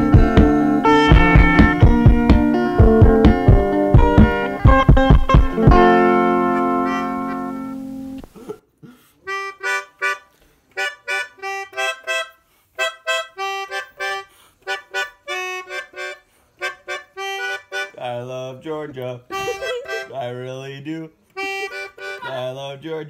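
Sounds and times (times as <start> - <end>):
melodica playing reedy notes: 0.0 - 8.2, 9.3 - 18.5, 19.2 - 20.3, 21.4 - 22.5.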